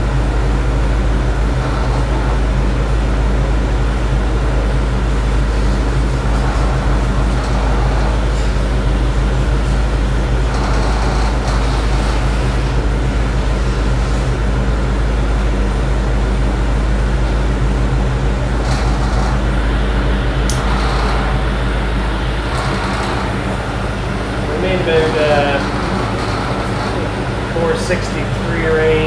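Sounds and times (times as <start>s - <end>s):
big engine running steadily: 0.0s - 29.0s.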